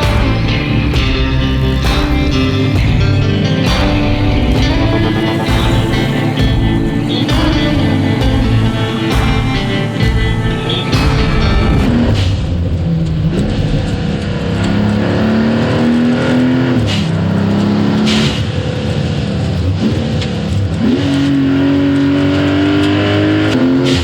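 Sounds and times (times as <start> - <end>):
car engine accelerating hard: 0.0 - 24.0
gear shifts: 0.0 - 24.0.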